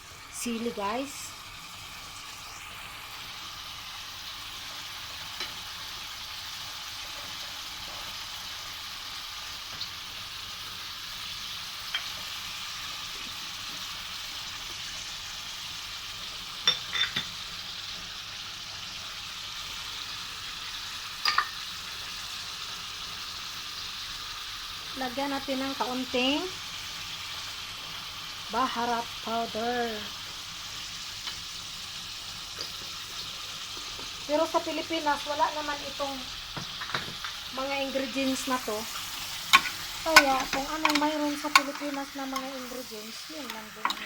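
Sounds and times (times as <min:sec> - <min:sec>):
food sizzling in hot oil: 0:00.0 - 0:44.0.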